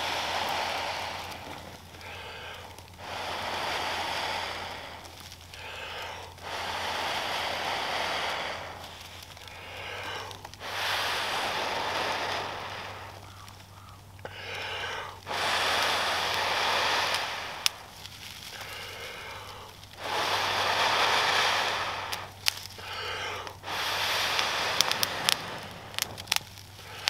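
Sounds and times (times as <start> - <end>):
person blowing into tinder: 0.0 - 13.4, 14.3 - 27.0
tinder crackling: 0.0 - 27.0.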